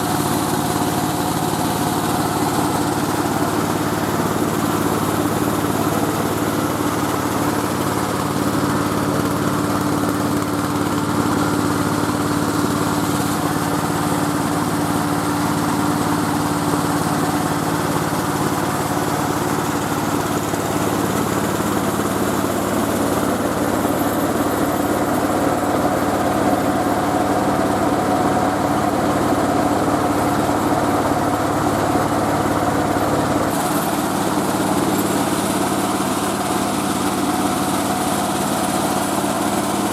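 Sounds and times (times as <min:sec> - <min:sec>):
machine engine humming: 0:00.0 - 0:39.9.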